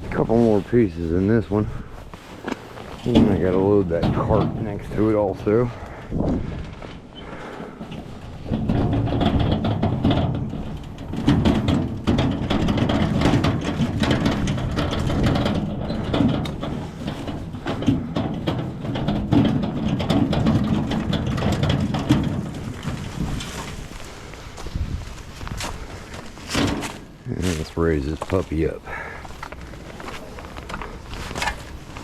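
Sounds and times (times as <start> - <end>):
firewood pieces knocking together: 5.8 - 32.0.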